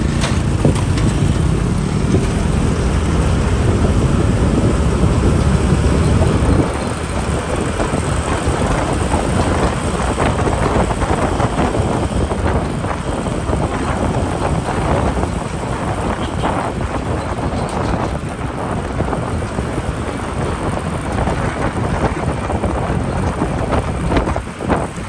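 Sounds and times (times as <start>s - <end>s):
motorbike engine: 0.0s - 25.0s
motorbike traffic: 0.0s - 25.0s
wind buffeting microphone: 0.0s - 25.0s.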